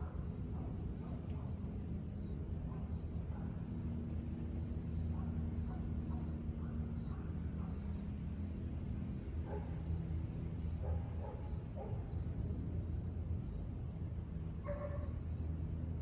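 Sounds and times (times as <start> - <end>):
crickets chirring: 0.0 - 16.0
steady low hum: 0.0 - 16.0.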